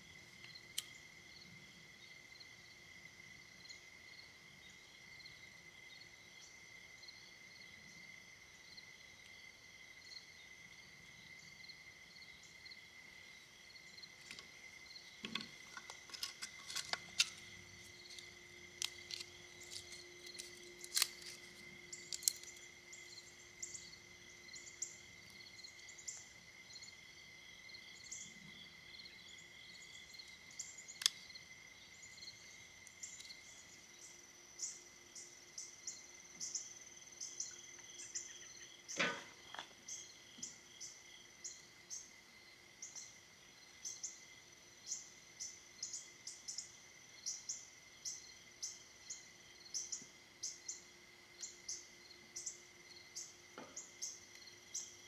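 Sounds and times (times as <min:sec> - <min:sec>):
insects and birds chirping: 0:00.0 - 0:55.0.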